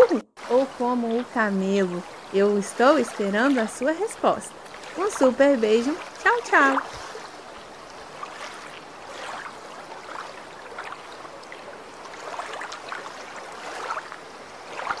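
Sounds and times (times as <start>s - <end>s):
flowing lapping water: 0.0s - 15.0s
small water splashes: 0.0s - 15.0s.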